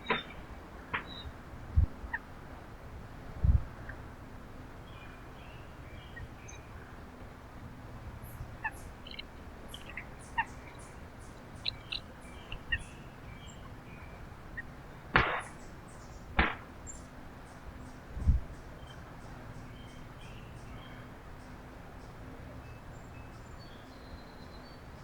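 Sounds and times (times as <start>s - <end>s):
small birds chirping: 4.8s - 25.0s.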